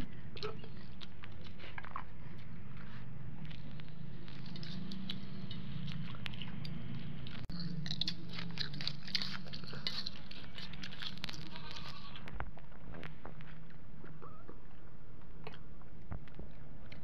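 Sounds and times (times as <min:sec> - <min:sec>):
chewing and crunching fish: 0:00.0 - 0:14.2.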